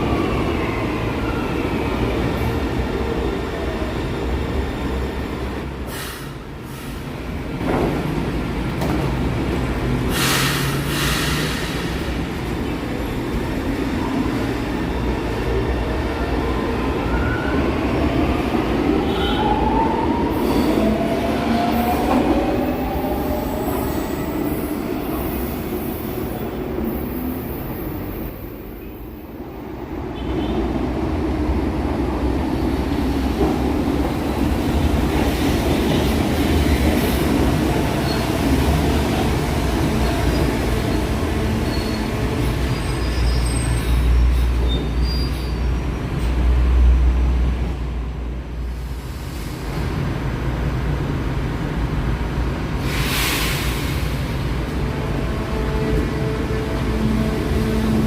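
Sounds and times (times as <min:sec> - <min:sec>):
train wheels rumbling on rails: 0:00.0 - 0:28.7, 0:30.1 - 0:58.0.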